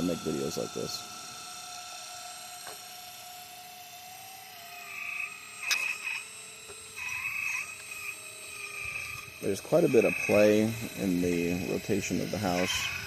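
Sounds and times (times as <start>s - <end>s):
hydraulic pump and motors whining: 0.0s - 13.0s.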